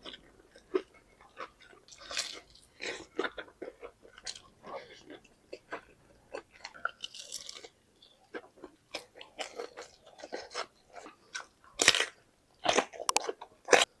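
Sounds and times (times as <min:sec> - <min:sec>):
crunching and chewing fried chicken: 0:00.0 - 0:14.0.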